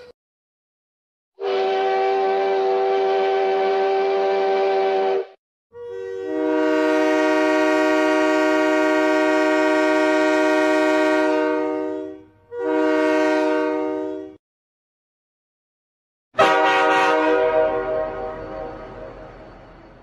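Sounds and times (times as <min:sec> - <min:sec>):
locomotive air horn chord: 0:01.4 - 0:14.4, 0:16.4 - 0:19.5.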